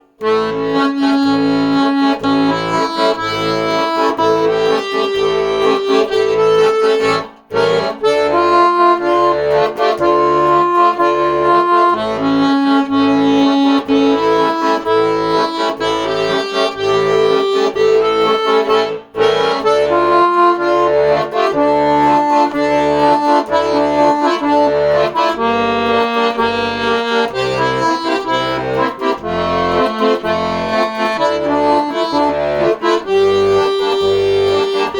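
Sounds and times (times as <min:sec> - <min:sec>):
accordion playing a melody: 0:00.0 - 0:34.9.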